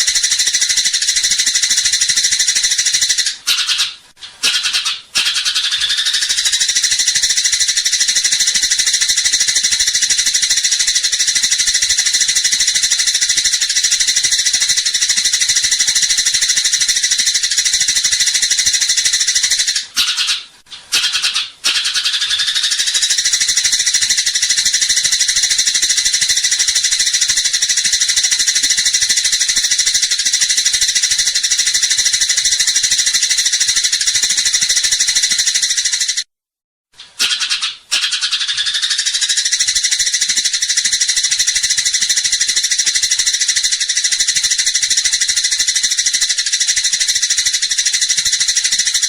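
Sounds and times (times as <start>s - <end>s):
sparrows chattering: 0.0s - 36.2s, 37.2s - 49.0s.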